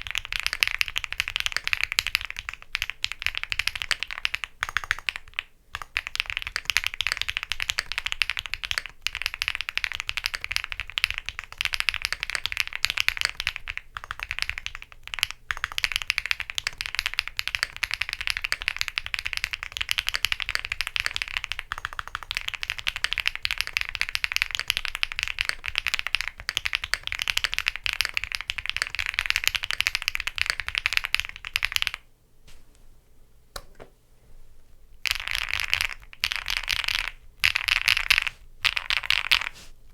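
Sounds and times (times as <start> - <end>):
faint keyboard clicks: 0.0 - 32.0
fast keyboard typing: 0.0 - 32.0, 35.1 - 39.5.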